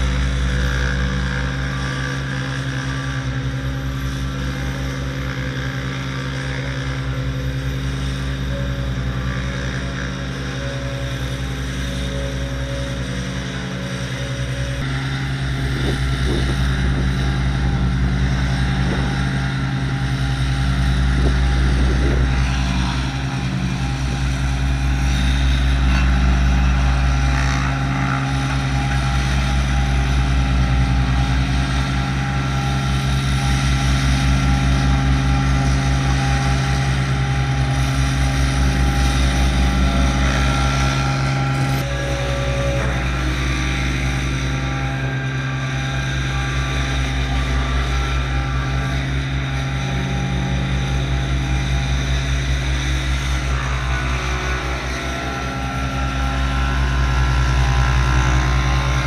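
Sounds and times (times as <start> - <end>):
road roller engine droning: 0.0 - 59.0.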